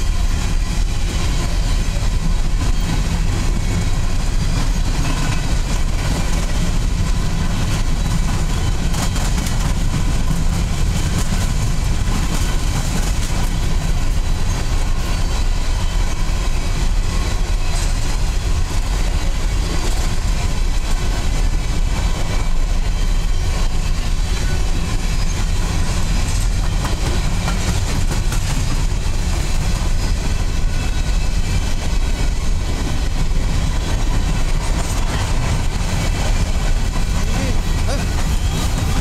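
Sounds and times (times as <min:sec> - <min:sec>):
steel wheels rolling on rails: 0:00.0 - 0:39.0.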